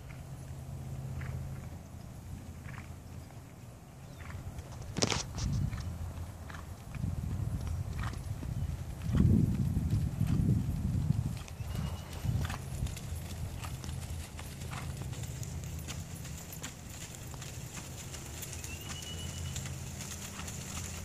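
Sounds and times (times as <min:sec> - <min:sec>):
horse hoofbeats on sand: 0:01.1 - 0:21.0.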